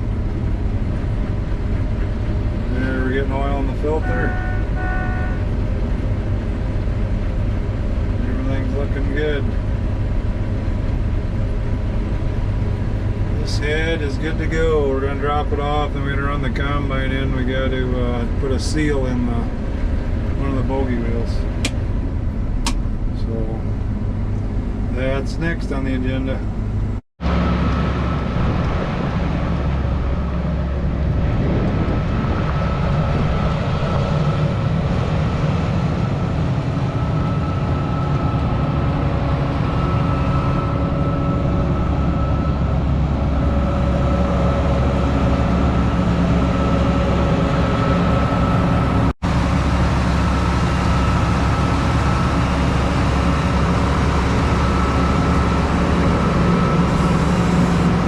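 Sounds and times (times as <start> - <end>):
farm machine engine running: 0.0 - 58.0
steady whine: 0.0 - 58.0.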